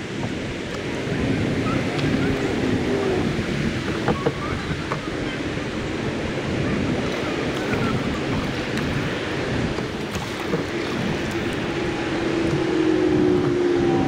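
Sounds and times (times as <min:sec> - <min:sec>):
wind buffeting microphone: 0:00.0 - 0:14.0
water lapping at kayak hull: 0:00.1 - 0:13.6.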